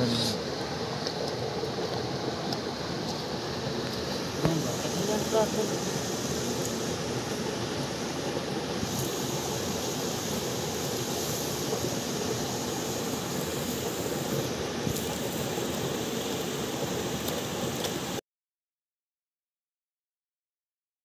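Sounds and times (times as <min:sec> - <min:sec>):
river water rushing: 0:00.0 - 0:18.2.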